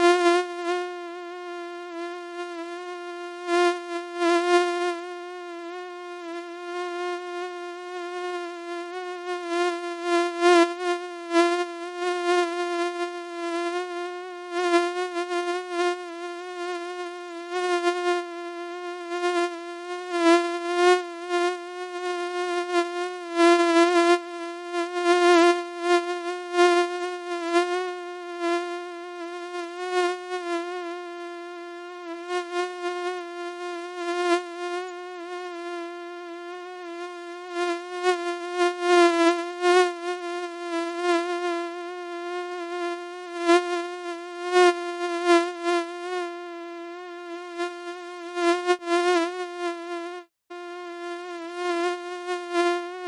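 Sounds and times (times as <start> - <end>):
mosquito whine: 0.0 - 53.0.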